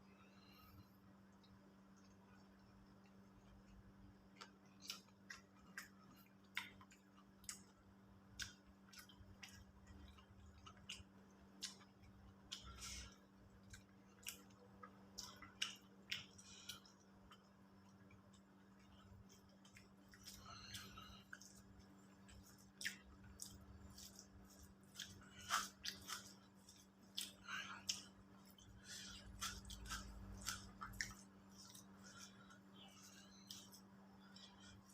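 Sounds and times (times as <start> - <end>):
faint steady hum: 0.0 - 34.9
mouth chewing food: 1.4 - 34.9.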